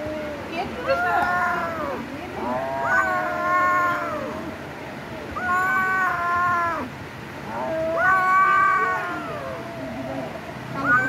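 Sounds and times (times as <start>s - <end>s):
cat yowling: 0.0s - 11.0s.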